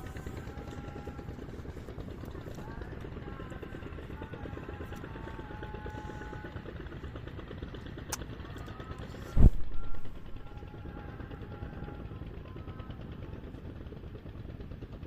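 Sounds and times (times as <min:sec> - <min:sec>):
engine running with low pulse: 0:00.0 - 0:15.0.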